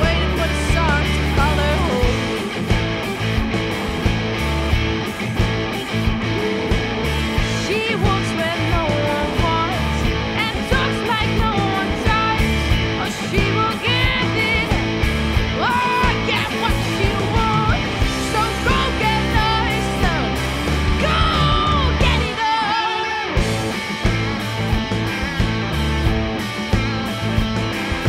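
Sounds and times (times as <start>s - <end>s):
electric guitar: 0.0s - 28.0s
rock band song: 0.0s - 28.0s.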